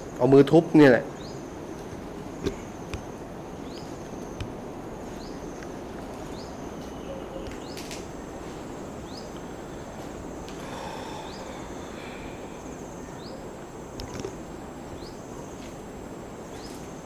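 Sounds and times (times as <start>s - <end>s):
high insect hum: 0.0s - 17.0s
insect rising chirp: 1.1s - 17.0s.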